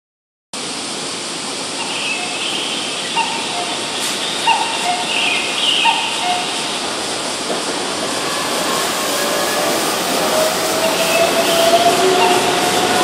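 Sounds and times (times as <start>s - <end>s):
steady hiss: 0.6s - 13.0s.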